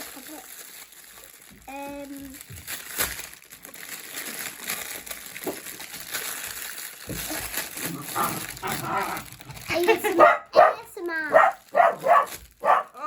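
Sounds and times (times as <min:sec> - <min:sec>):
fidget toy clicks and crinkling: 0:00.0 - 0:13.0.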